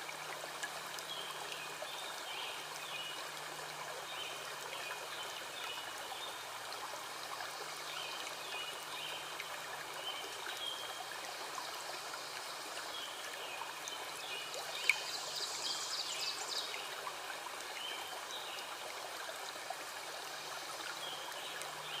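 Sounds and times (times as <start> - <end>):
running water: 0.0 - 22.0.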